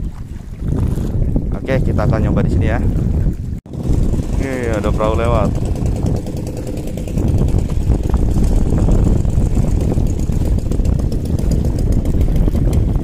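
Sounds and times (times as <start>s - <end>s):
boat engine running: 0.3s - 13.0s.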